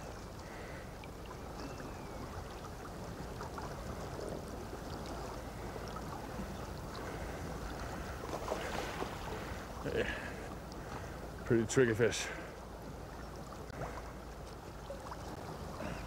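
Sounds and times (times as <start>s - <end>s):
shallow water washing: 0.0s - 16.0s.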